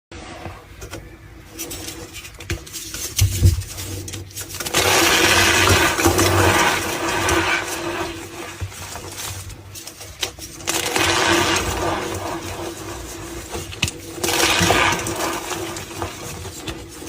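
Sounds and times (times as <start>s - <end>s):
chalk crushing and crunching: 1.4s - 17.0s.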